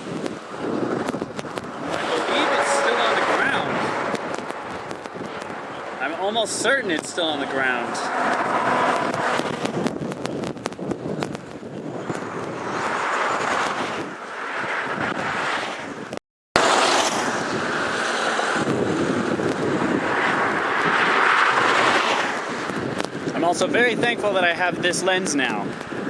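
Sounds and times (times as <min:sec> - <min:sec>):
wind gusting across microphone: 0:00.0 - 0:26.0.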